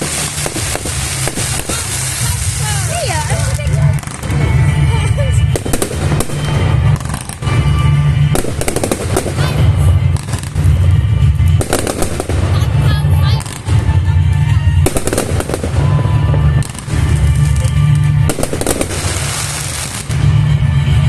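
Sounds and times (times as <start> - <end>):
deep rumble: 0.0 - 21.0
fireworks bangs and crackles: 0.0 - 21.0
music playing: 0.0 - 21.0.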